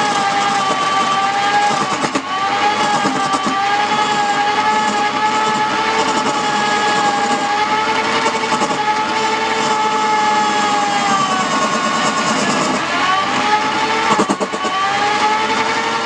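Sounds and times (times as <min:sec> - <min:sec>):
wood-turning lathe whine: 0:00.0 - 0:16.0.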